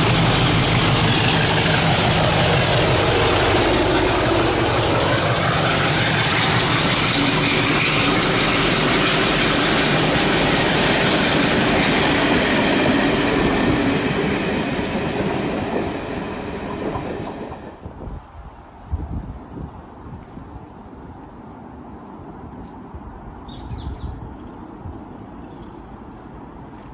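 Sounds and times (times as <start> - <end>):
train passing on rails: 0.0 - 26.9.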